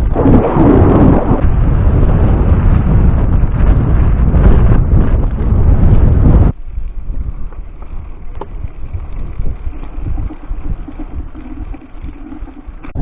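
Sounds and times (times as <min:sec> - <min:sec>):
quiet low rumble: 0:00.0 - 0:13.0
wind buffeting microphone: 0:00.0 - 0:13.0.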